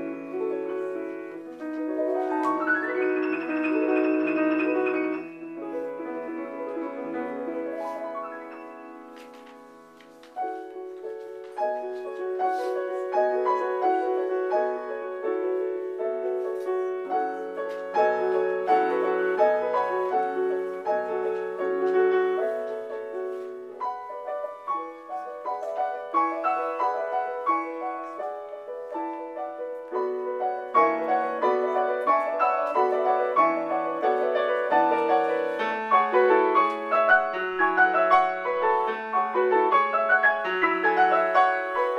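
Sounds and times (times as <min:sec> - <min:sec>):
solo piano classical piece: 0:00.0 - 0:41.9.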